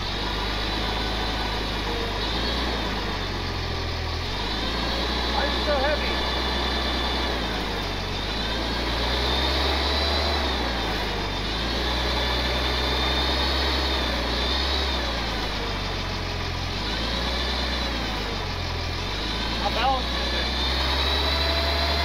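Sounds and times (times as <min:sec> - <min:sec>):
forklift engine whining: 0:00.0 - 0:22.0.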